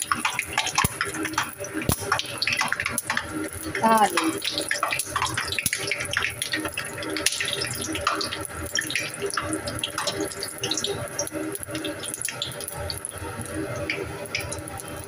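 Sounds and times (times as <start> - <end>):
bread frying in hot oil: 0.0 - 15.0.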